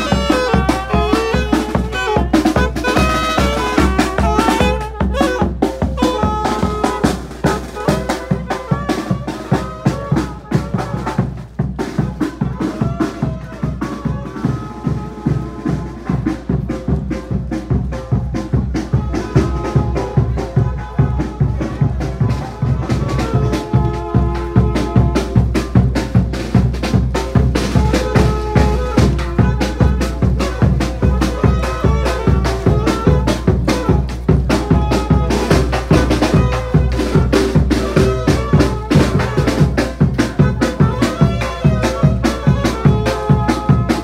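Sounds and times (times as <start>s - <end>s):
bass drum beat: 0.0s - 44.0s
brass band playing: 0.0s - 44.0s
snare drum marching beat: 0.0s - 44.0s.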